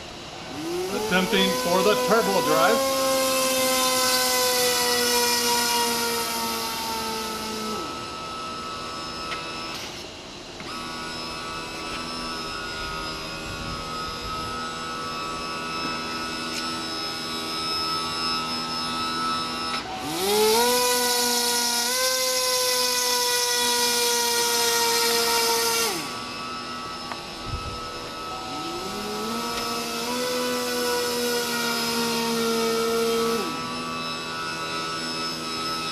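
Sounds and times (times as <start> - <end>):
electric fan whine and air rush: 0.0 - 35.9
small electric motor whine: 0.0 - 35.9.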